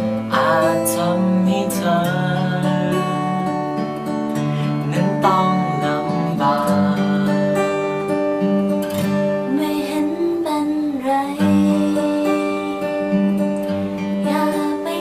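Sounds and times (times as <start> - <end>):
held melody line: 0.0 - 15.0
strummed acoustic guitar: 0.0 - 15.0.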